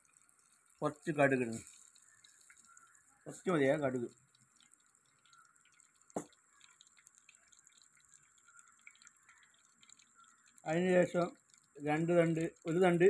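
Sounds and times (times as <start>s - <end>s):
seeds sizzling and popping in oil: 0.0s - 13.0s.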